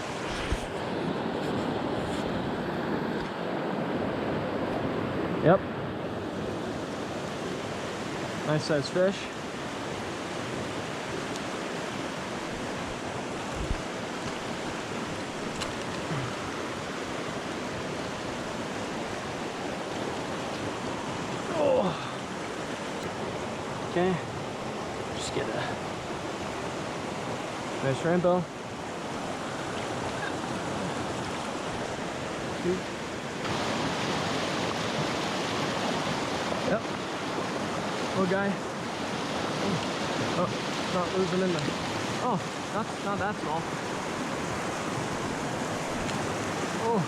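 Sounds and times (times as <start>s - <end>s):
creek water rushing: 0.0s - 47.0s.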